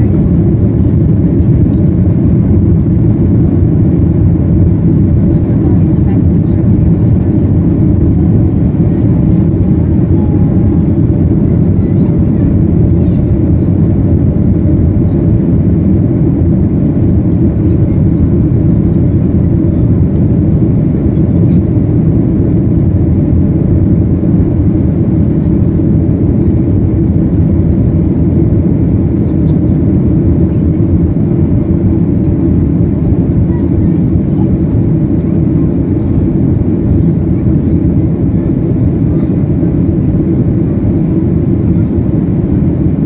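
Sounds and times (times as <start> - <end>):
jet engine roar in cabin: 0.0 - 43.0.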